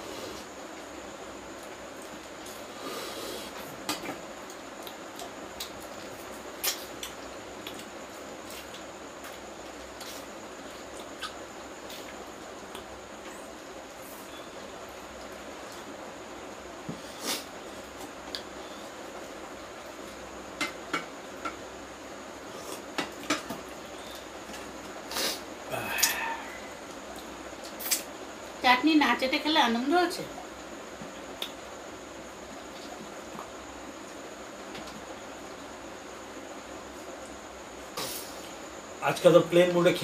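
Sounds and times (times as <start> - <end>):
steady hiss: 0.0 - 40.0.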